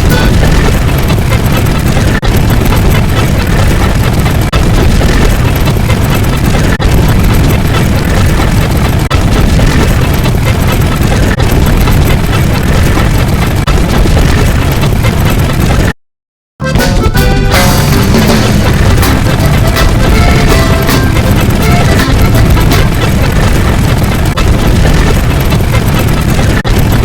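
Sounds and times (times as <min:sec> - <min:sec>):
dense low sound-effect noise: 0:00.0 - 0:15.9, 0:16.6 - 0:27.0.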